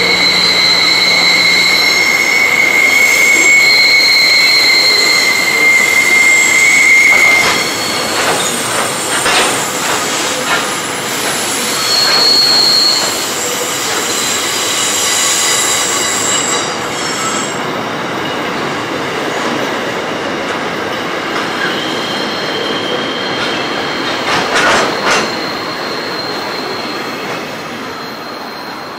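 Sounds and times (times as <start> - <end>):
train wheels squealing: 0.0 - 28.9.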